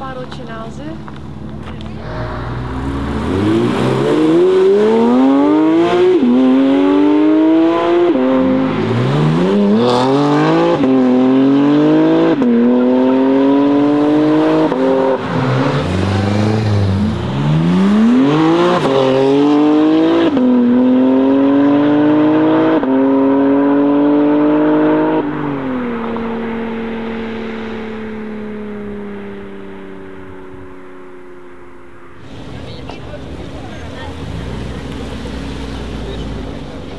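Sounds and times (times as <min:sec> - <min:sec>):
car engine accelerating hard: 0:01.2 - 0:36.9.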